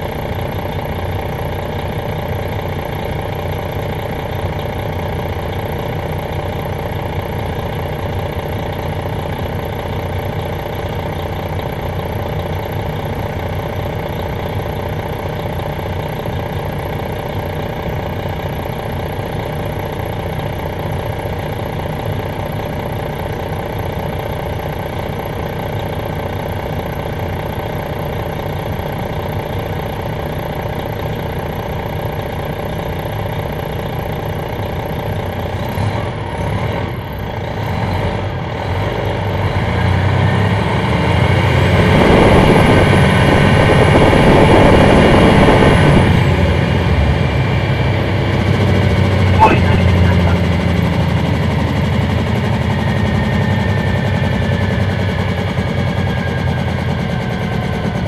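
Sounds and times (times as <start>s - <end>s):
bus diesel engine idling: 0.0s - 40.2s, 41.2s - 58.0s.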